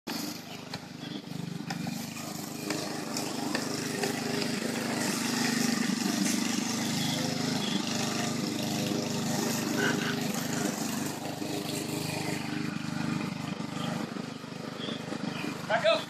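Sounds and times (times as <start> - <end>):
lawn mower engine running: 0.1 - 16.0.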